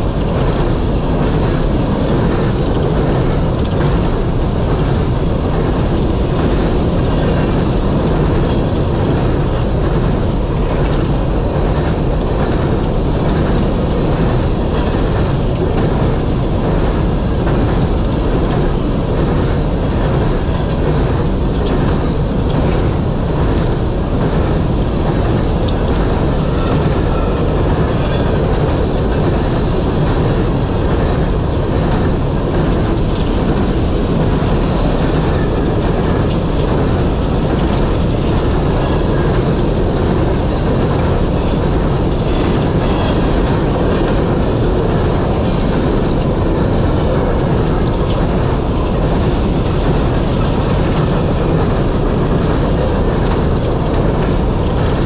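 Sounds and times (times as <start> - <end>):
train wheels rumbling on rail: 0.0 - 55.0
wheels clickety-clack over rail joints: 0.0 - 55.0.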